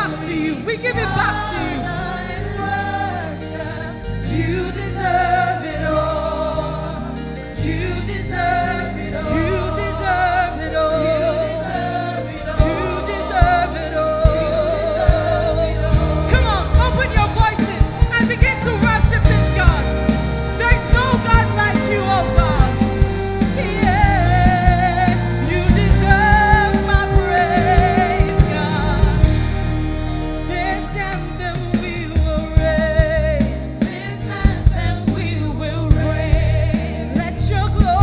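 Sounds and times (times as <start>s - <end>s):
keyboards and bass: 0.0s - 38.0s
singers with vibrato: 0.0s - 38.0s.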